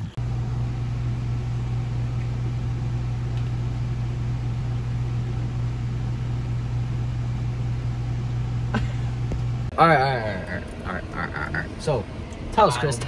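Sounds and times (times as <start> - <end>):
vehicle cabin hum: 0.0 - 13.0.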